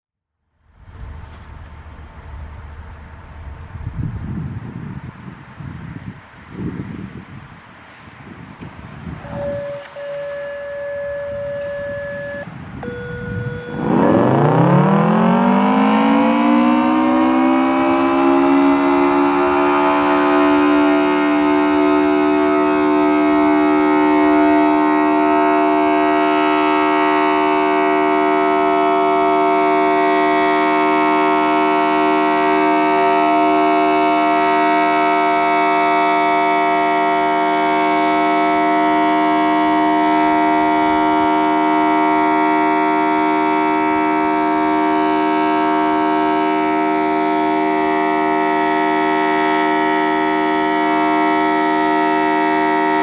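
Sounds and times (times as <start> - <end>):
siren with chord-like tone: 9.2 - 53.0.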